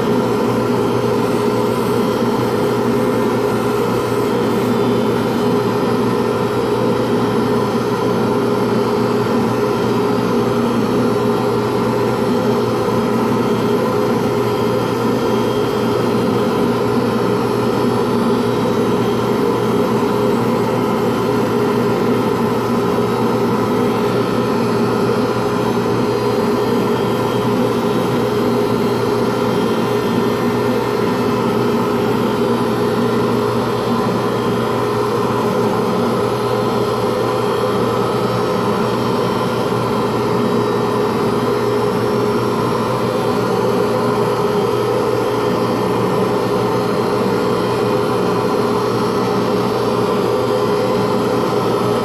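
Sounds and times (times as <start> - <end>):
lathe motor hum: 0.0 - 52.0.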